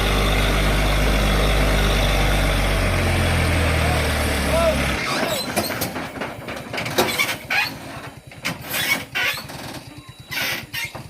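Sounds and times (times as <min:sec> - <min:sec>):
starter motor cranking diesel engine: 0:00.0 - 0:11.0.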